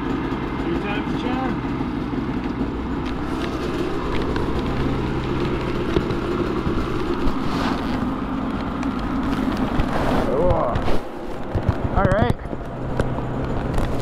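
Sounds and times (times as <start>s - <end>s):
snowmobile engine idling: 0.0s - 14.0s.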